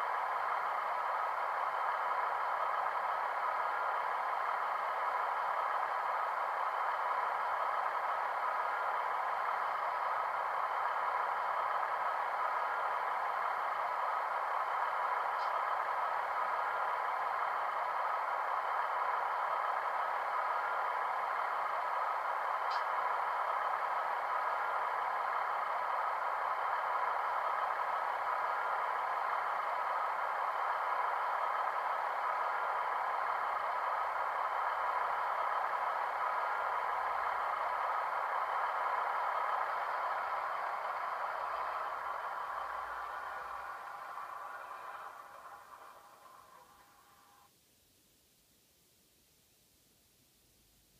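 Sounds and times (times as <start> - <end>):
thin diesel engine idle drone: 0.0 - 47.6.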